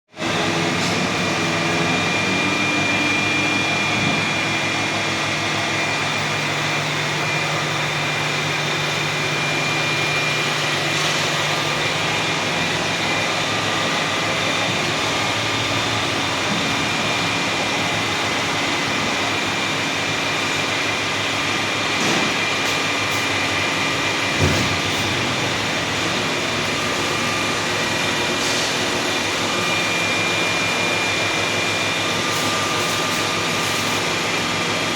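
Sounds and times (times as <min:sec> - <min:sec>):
boring machine humming and whining: 0:00.2 - 0:34.9.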